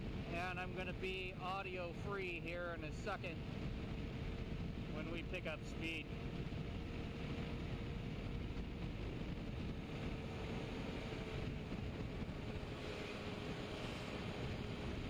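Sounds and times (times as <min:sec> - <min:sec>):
motorcycle running at speed: 0:00.0 - 0:15.0
wind rushing over microphone: 0:00.0 - 0:15.0.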